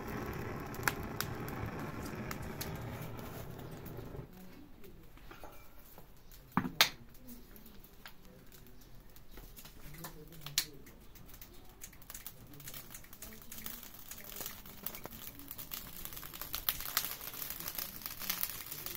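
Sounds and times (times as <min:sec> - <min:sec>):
charcoal fire crackling and sizzling: 0:00.0 - 0:04.3, 0:07.8 - 0:18.9.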